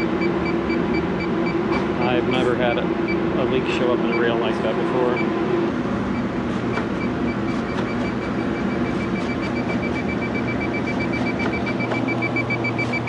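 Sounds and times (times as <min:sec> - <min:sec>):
leak detector beeping: 0:00.0 - 0:03.4, 0:04.0 - 0:13.0
machinery hum: 0:00.0 - 0:13.0.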